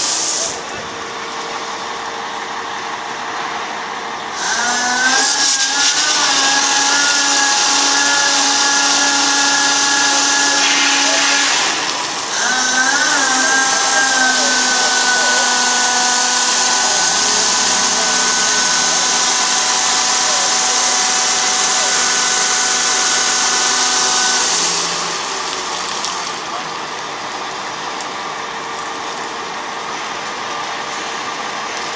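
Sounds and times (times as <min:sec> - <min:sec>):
water spraying hiss: 0:00.0 - 0:00.7, 0:04.4 - 0:31.9.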